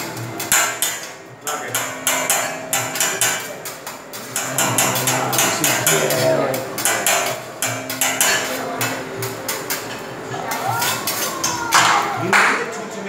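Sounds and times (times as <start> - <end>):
metal spatula clacking on griddle: 0.0 - 12.7.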